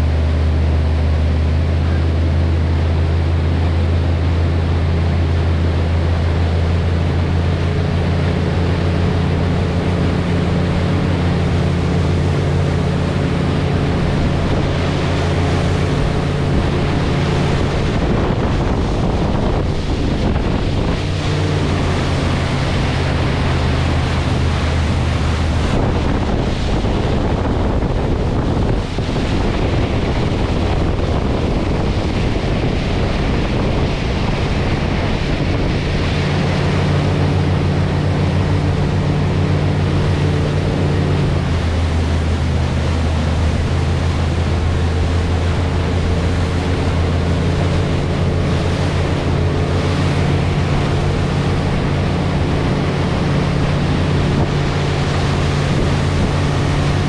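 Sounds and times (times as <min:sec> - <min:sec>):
motorboat engine droning: 0:00.0 - 0:57.0
rush of churning wake: 0:00.0 - 0:57.0
wind buffeting microphone: 0:00.0 - 0:57.0.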